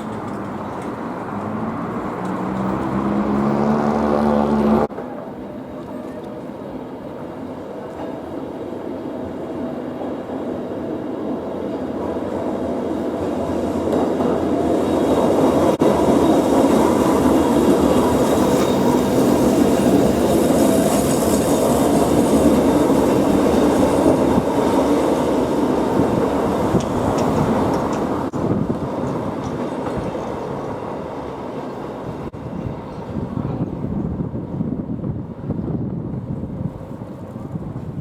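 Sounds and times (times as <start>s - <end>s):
wheels rumbling on rail: 0.0s - 38.0s.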